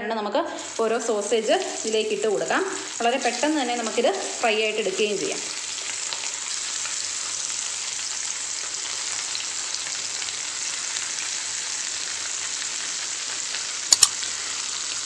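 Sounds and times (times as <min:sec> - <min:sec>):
sausages sizzling in oil: 0:00.4 - 0:15.0.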